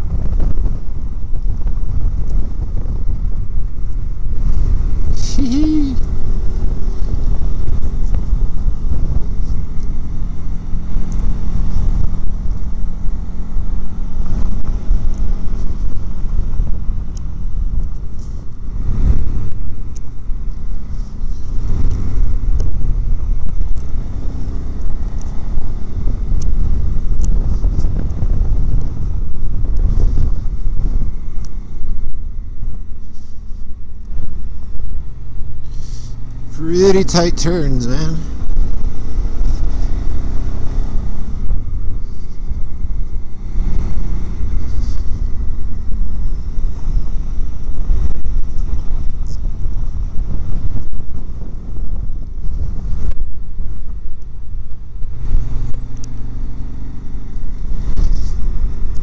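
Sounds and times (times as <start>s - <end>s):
motorcycle engine running: 0.0s - 59.0s
wind and road noise rumble: 0.0s - 59.0s.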